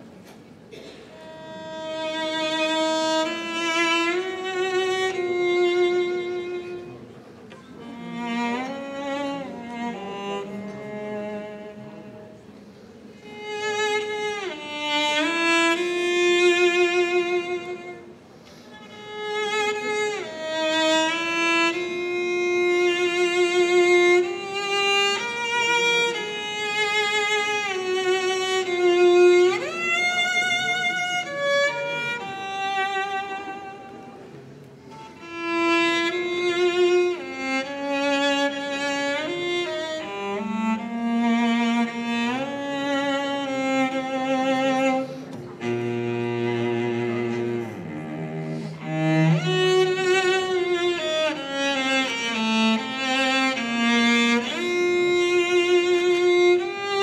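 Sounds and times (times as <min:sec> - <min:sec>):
slow violin string music: 0:00.0 - 0:57.0.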